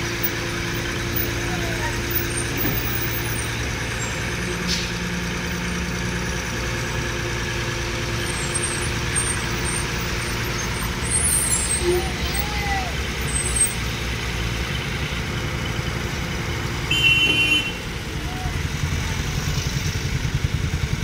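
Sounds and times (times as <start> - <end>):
crane engine droning: 0.0 - 21.0.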